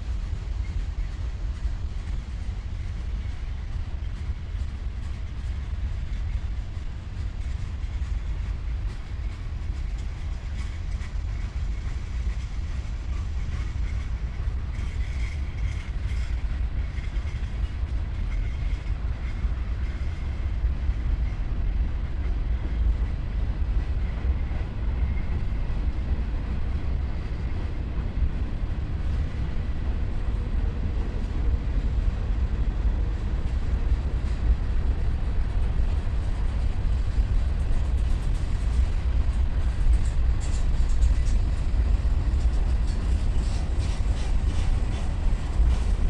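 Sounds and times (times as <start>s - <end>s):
freight train wheels rumbling: 0.0s - 46.0s.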